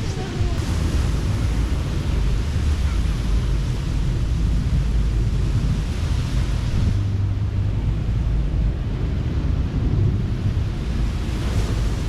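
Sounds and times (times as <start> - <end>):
ocean surf washing on beach: 0.0 - 12.0
wind buffeting microphone: 0.0 - 12.0.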